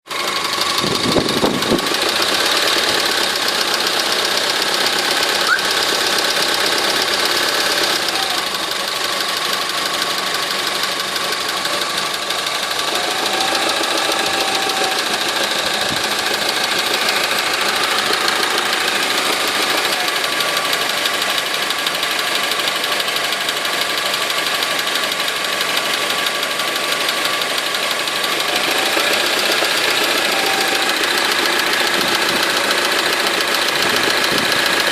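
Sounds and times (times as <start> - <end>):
car engine running: 0.1 - 34.9
engine knocking: 0.1 - 34.9.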